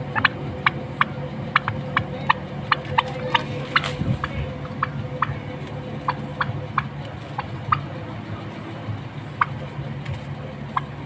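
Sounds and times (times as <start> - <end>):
steady low hum: 0.0 - 11.0
turkeys putt calls: 0.0 - 11.0.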